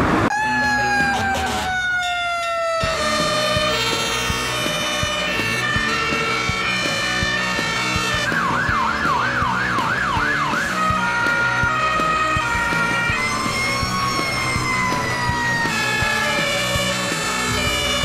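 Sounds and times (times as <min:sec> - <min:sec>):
siren tone sliding downward: 0:00.0 - 0:18.0
emergency siren yelping: 0:00.3 - 0:18.0
background music: 0:02.6 - 0:18.0.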